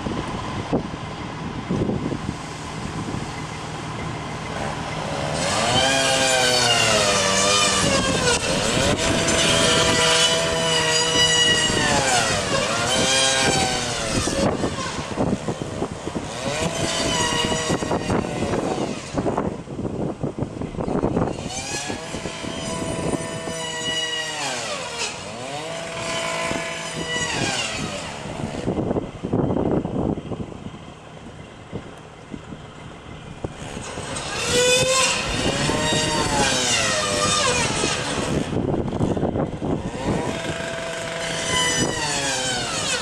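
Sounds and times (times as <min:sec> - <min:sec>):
chainsaw running at high revs: 0:01.7 - 0:20.1, 0:20.8 - 0:29.8, 0:32.7 - 0:43.0.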